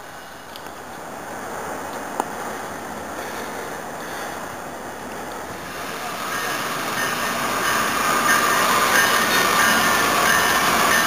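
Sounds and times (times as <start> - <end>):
passenger train rushing: 0.0 - 11.0.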